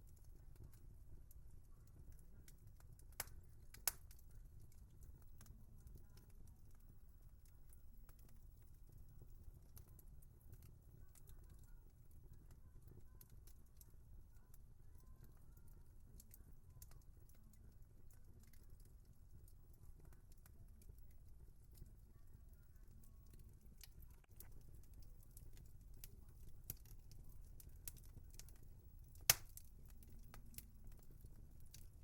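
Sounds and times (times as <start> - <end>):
low rumble of burning logs: 0.0 - 32.0
wood fire crackling: 0.0 - 32.0.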